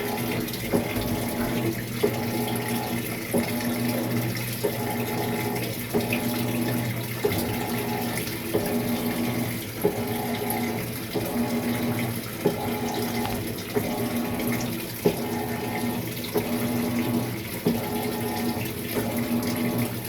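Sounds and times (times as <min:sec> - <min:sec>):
washing machine hum: 0:00.0 - 0:20.0
water running into washer tub: 0:00.0 - 0:20.0.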